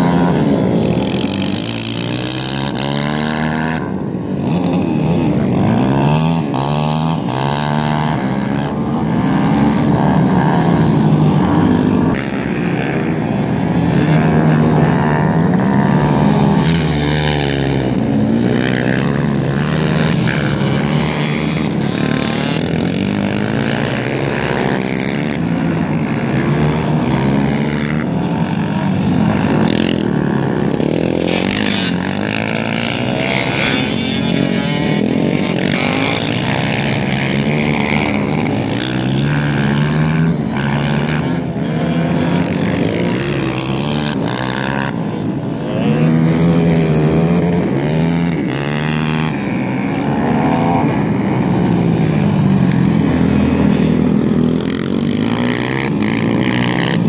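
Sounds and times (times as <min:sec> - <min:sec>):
quad bike engines revving: 0:00.0 - 0:57.0.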